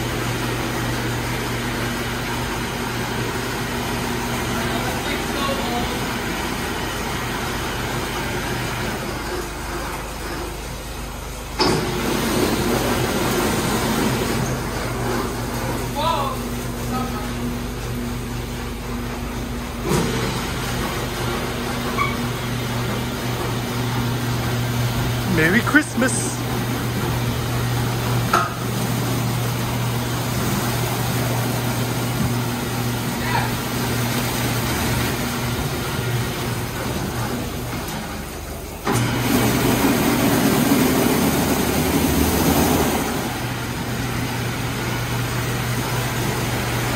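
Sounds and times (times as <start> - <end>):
car wash motor hum: 0.0 - 46.9.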